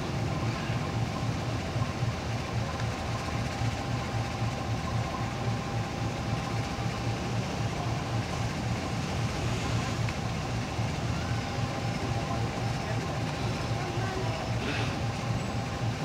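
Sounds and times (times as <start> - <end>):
train diesel engine idling: 0.0 - 16.0.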